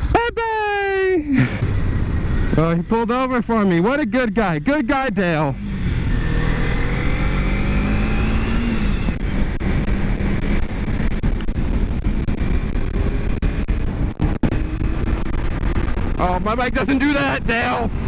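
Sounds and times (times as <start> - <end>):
motorcycle engine accelerating: 1.4 - 3.3, 4.7 - 18.0
wind rushing over microphone: 1.5 - 18.0.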